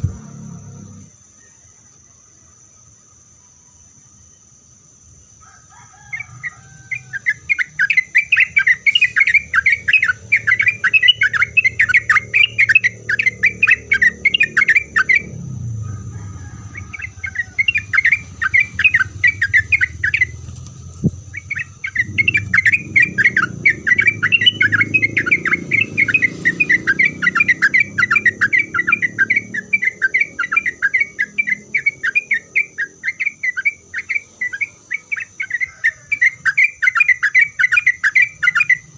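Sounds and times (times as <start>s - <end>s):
bird chattering song: 6.0s - 38.9s.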